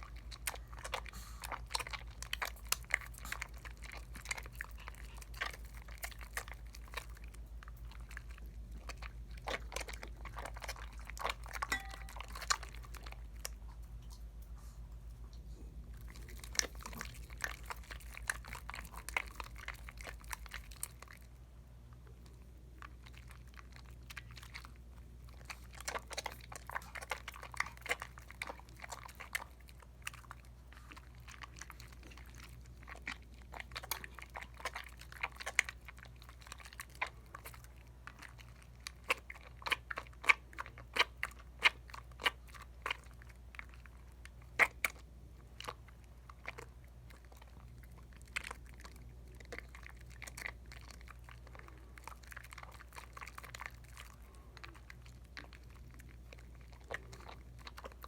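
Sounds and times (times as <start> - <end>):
soap lather squishing: 0.0 - 58.0.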